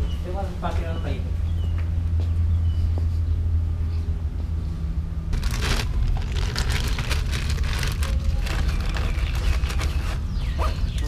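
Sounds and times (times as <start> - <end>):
steady low rumble: 0.4 - 10.4.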